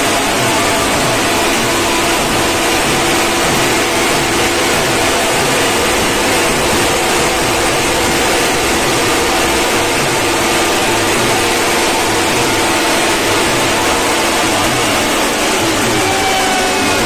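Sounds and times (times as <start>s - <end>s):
distorted drums and crowd din: 0.0s - 17.0s.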